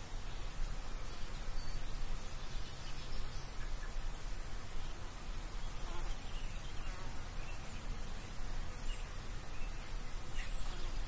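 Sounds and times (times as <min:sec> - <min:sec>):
insect buzzing: 0:00.0 - 0:11.0.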